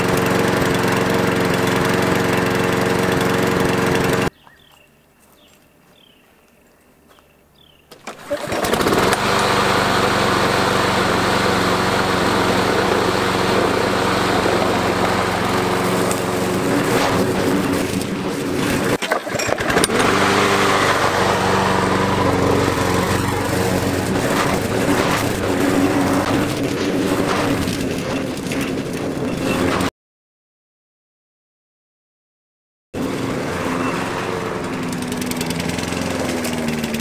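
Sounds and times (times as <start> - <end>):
lawn mower engine running: 0.0 - 4.7, 7.9 - 29.9, 33.0 - 37.0.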